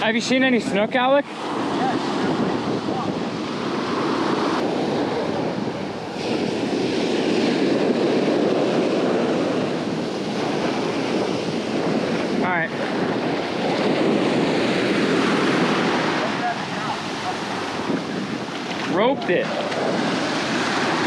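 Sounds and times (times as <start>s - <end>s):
ocean surf breaking: 0.0s - 21.0s
wind on microphone: 0.0s - 21.0s.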